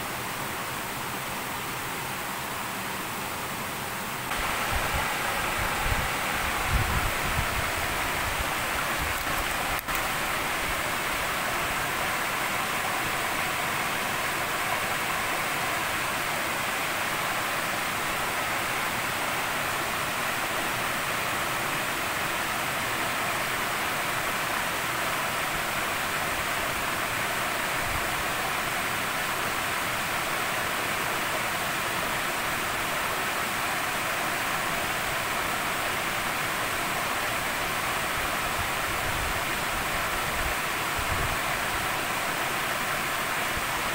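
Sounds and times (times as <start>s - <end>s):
water cascading into pool: 4.3s - 43.9s.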